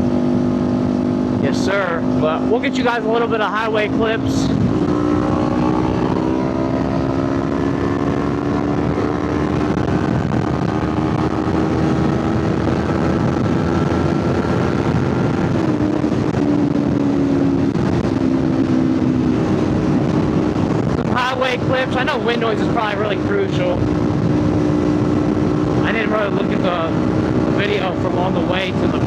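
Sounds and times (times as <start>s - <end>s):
motorcycle engine cruising: 0.0s - 29.0s
wind noise on microphone: 0.0s - 29.0s.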